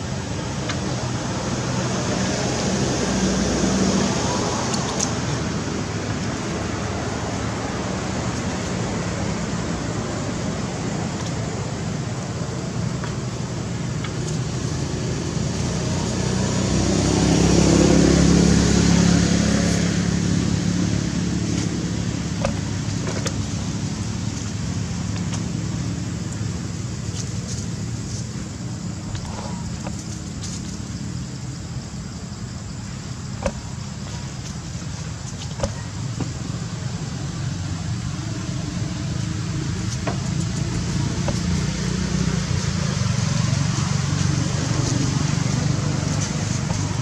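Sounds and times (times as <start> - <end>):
vehicle engine passing by: 0.0 - 12.8, 13.6 - 34.5, 36.9 - 47.0
steady background noise: 0.0 - 47.0.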